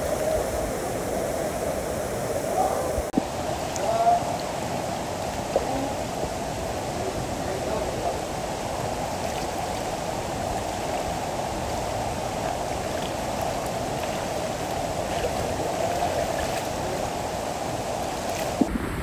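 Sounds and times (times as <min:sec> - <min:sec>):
river water rushing over rocks: 0:00.0 - 0:19.0
faint ticks and splashes: 0:03.2 - 0:18.7.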